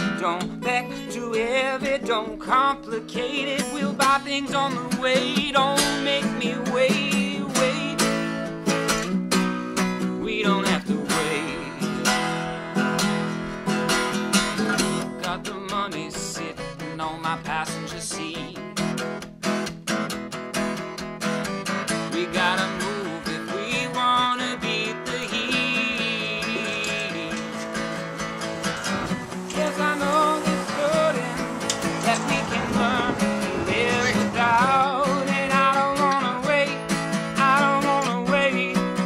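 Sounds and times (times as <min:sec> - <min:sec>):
instrumental music led by guitar: 0:00.0 - 0:39.0.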